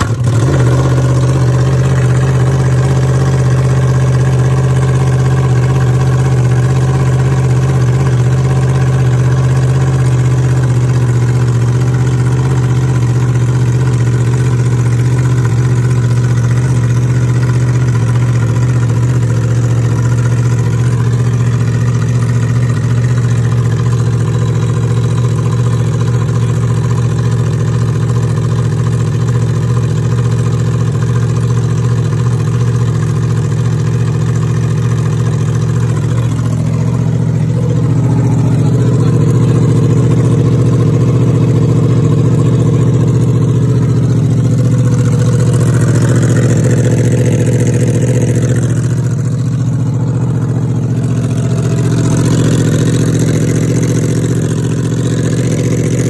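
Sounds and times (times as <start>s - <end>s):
motorcycle engine idling loudly: 0.0s - 56.0s.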